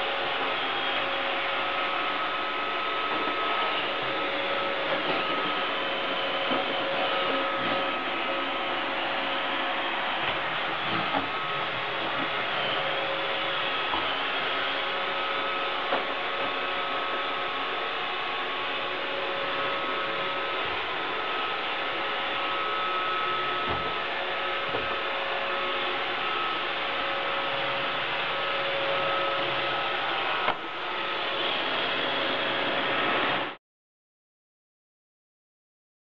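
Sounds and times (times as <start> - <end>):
robot vacuum whirring: 0.0 - 33.5.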